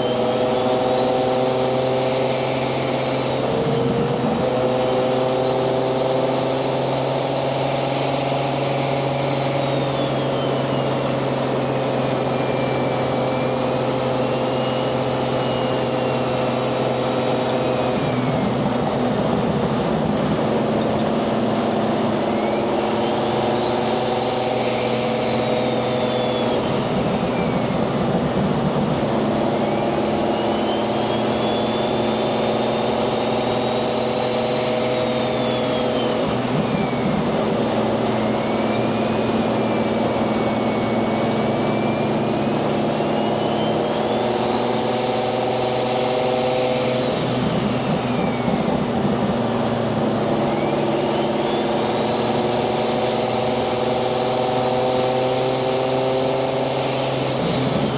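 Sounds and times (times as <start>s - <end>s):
turbo whistle: 0.0s - 19.0s, 20.6s - 28.2s, 28.9s - 57.9s
car engine cruising: 0.0s - 57.9s.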